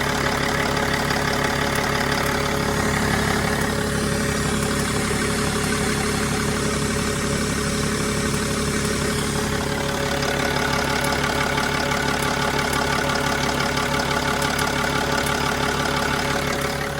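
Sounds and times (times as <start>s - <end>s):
diesel engine idling: 0.0s - 16.9s
rapid engine ticking: 0.0s - 16.9s.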